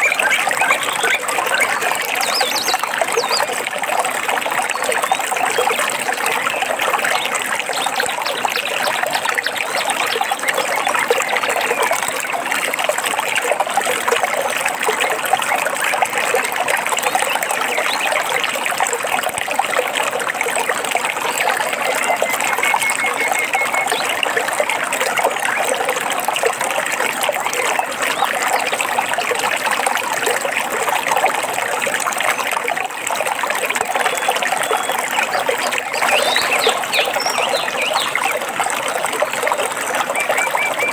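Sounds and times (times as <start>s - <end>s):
stream trickling and babbling: 0.0s - 40.9s.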